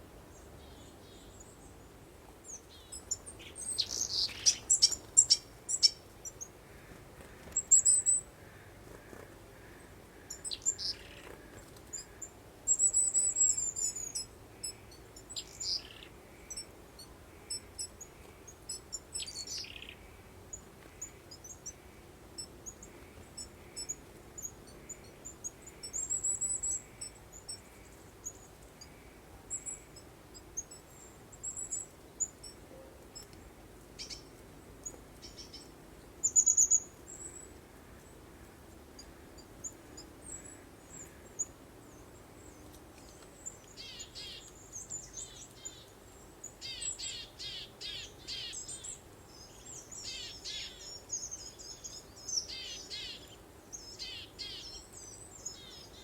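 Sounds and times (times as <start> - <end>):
faint breeze hiss: 0.0 - 56.0
songbirds chirping: 0.0 - 56.0.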